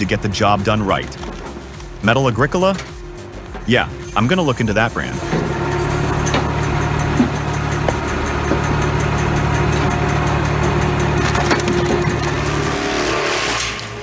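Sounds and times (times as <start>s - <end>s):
fast regular ticking: 0.0s - 12.9s
band saw cutting wood: 0.0s - 14.0s.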